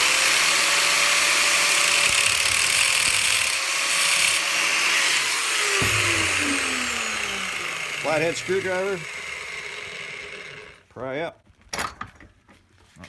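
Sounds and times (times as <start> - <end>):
angle grinder cutting metal: 0.0 - 10.8.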